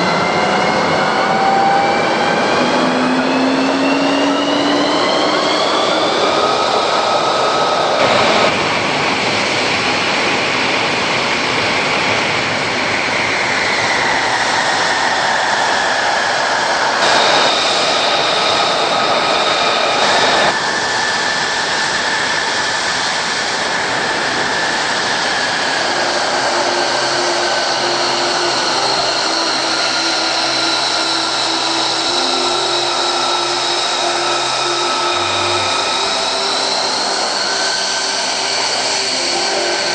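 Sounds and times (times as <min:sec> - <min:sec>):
aircraft turbine engines whining: 0:00.0 - 0:39.9.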